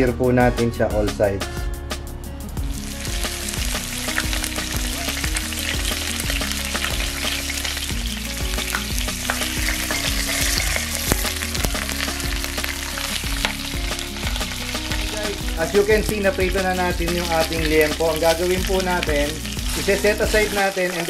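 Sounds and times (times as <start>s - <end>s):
meat sizzling in hot oil: 2.7s - 21.0s.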